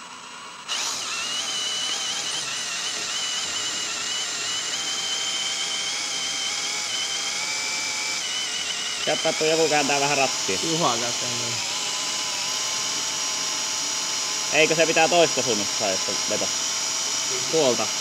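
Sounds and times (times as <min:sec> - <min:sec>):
cordless drill whining: 0:00.0 - 0:18.0.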